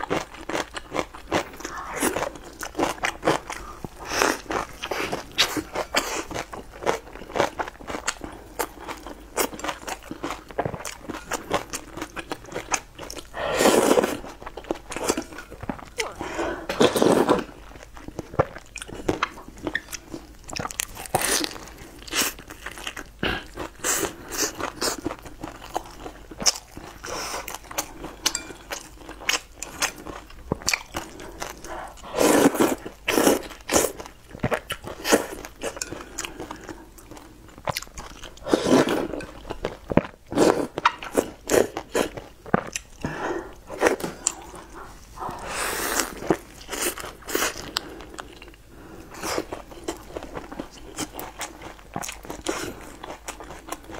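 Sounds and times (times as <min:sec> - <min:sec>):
crunching and chewing flatbread: 0:00.0 - 0:16.0, 0:16.7 - 0:53.9.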